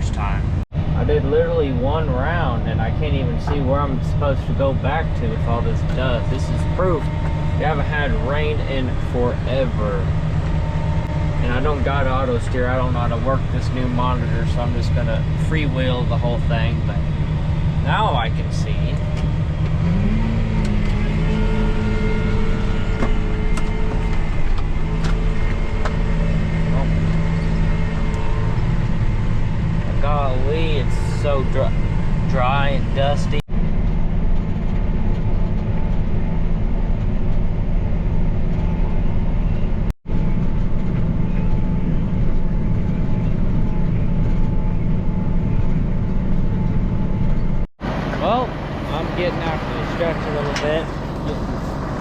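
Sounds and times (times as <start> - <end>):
tractor engine under load: 0.0 - 52.0.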